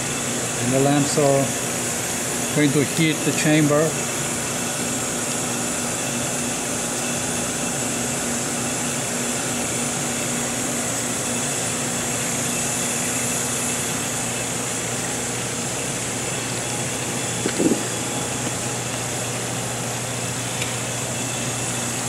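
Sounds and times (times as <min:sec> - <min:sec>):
oven mechanical hum and hiss: 0:00.0 - 0:22.0.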